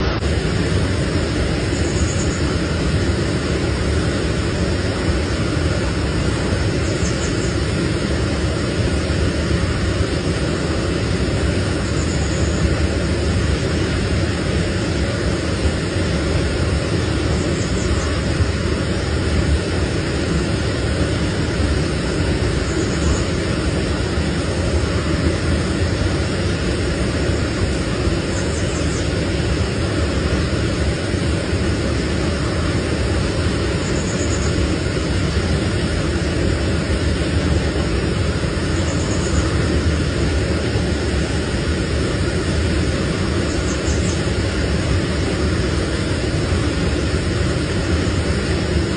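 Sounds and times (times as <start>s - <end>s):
steady low rushing noise: 0.0s - 48.9s.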